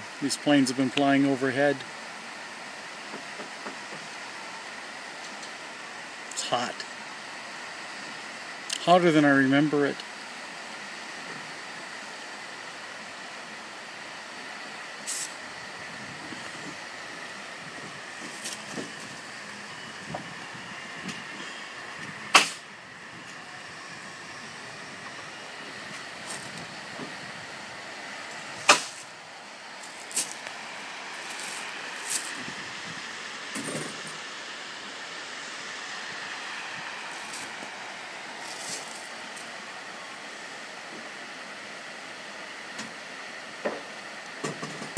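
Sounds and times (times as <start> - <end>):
outdoor background hiss and hum: 0.0 - 44.9.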